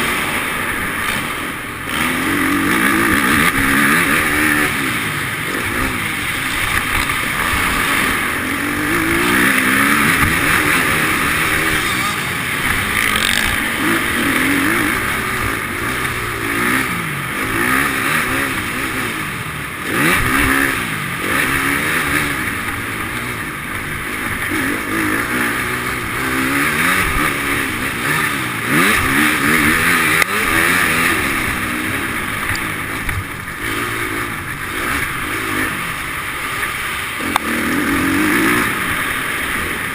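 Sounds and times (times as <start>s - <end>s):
motocross engines revving: 0.0s - 39.9s.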